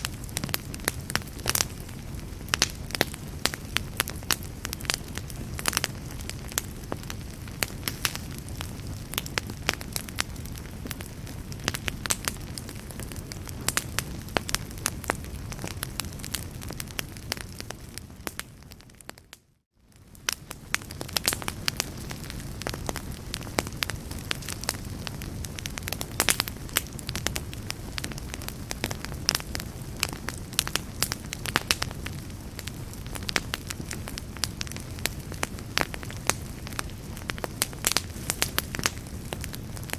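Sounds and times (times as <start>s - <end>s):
flames roaring: 0.0s - 19.1s, 19.9s - 39.9s
wood fire crackling and popping: 0.0s - 39.9s.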